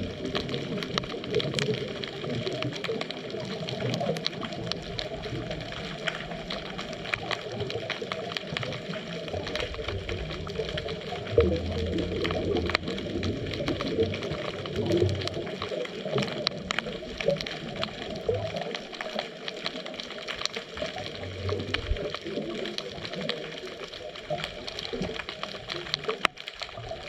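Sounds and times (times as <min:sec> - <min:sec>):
fine crackling clicks: 0:00.0 - 0:27.0
muffled underwater noise: 0:00.0 - 0:27.0.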